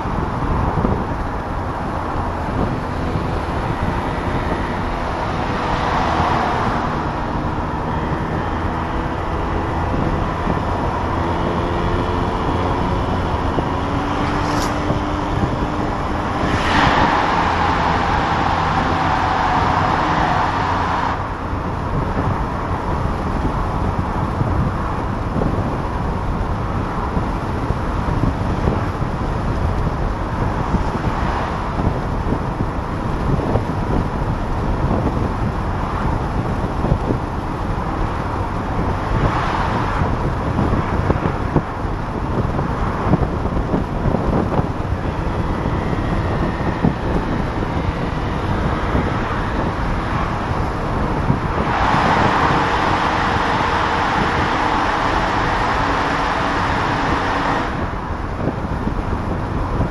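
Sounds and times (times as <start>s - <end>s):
car engine: 0.0s - 59.9s
wind rushing through open car: 0.0s - 59.9s.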